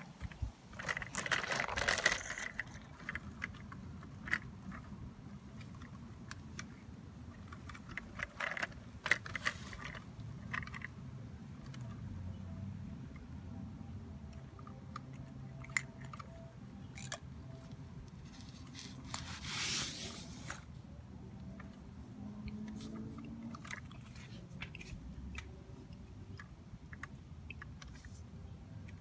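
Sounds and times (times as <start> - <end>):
toy truck clicks and ticks: 0.0 - 19.2, 21.4 - 29.0.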